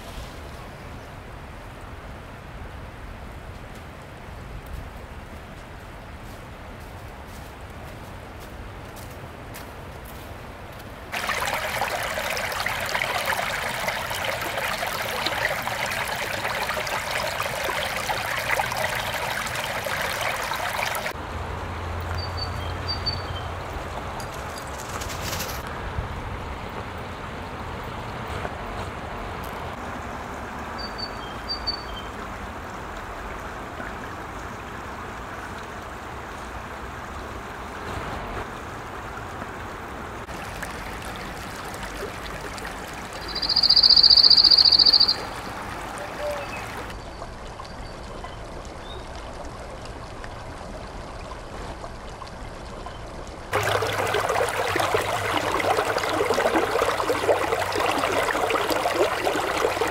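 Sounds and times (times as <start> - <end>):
creek water trickling over stones: 3.5 - 25.8, 29.3 - 37.8, 38.4 - 59.9.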